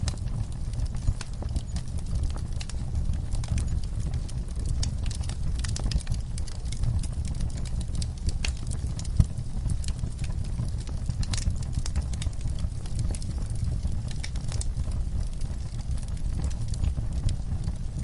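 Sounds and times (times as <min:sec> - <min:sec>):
fire pop: 0:00.0 - 0:18.0
wood fire crackling: 0:00.0 - 0:18.0.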